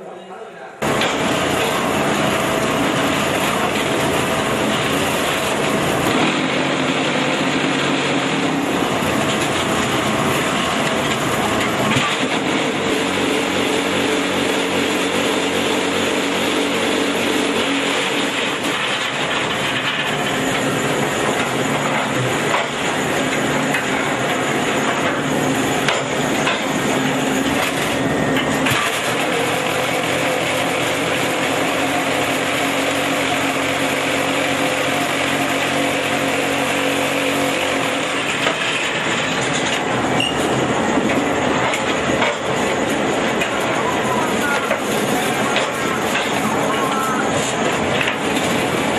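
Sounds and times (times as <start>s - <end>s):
block making machine din: 0.8s - 48.9s
droning hum: 0.8s - 48.9s.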